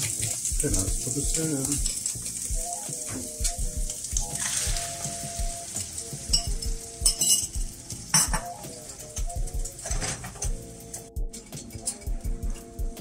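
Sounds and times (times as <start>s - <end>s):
eggs sizzling in frying pan: 0.0s - 13.0s.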